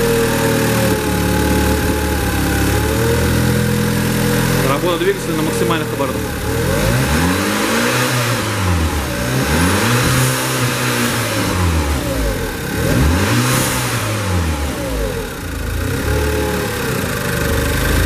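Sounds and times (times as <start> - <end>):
car engine revving hard: 0.0 - 18.0.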